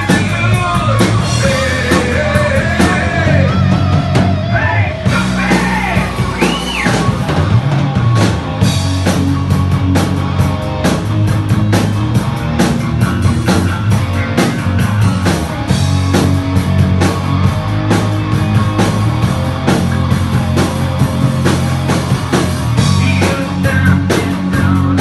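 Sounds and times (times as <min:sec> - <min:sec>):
drum kit driving beat: 0:00.0 - 0:25.0
electric guitars and bass: 0:00.0 - 0:25.0.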